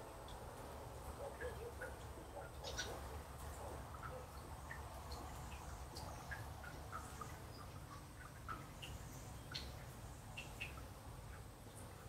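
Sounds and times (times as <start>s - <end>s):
birds chirping and clucking: 1.2s - 11.5s.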